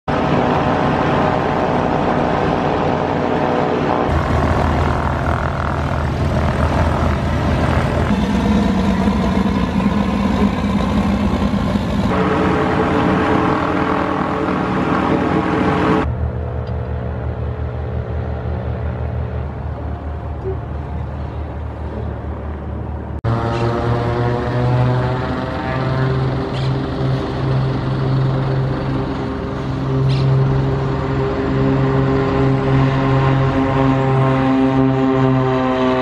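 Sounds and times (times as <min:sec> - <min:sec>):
propeller planes taxiing: 0:00.1 - 0:36.0.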